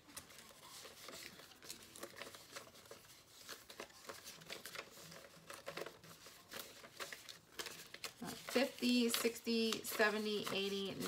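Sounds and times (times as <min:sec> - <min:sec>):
paper bills rustling and flicking: 0:00.0 - 0:11.0.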